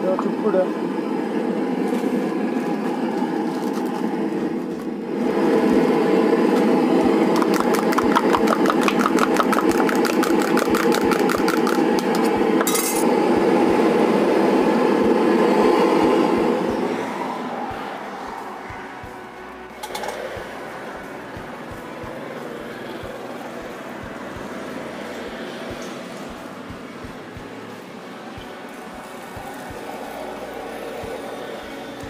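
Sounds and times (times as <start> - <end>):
steady hum: 4.0 - 32.0.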